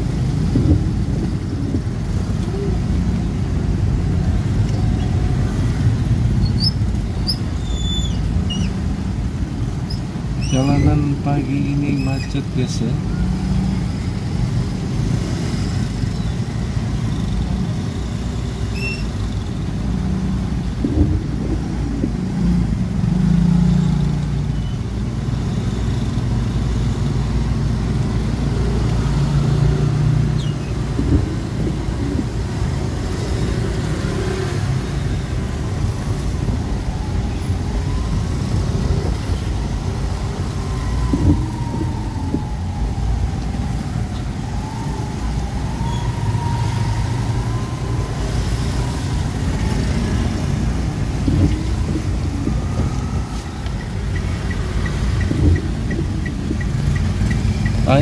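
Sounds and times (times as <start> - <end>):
car tyres on wet road: 0.0 - 58.0
traffic rumble: 0.0 - 58.0.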